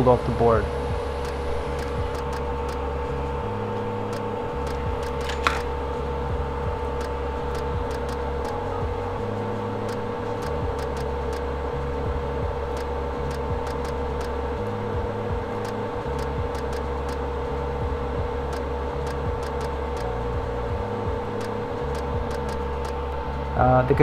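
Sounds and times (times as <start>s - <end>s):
electrical hum: 0.0s - 24.0s
high whine: 0.0s - 24.0s.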